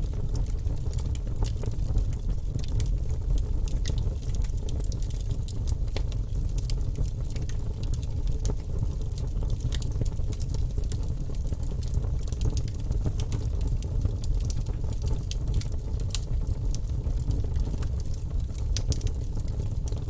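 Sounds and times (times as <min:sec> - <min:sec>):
low fire rumble: 0:00.0 - 0:20.0
wood fire crackling: 0:00.0 - 0:20.0.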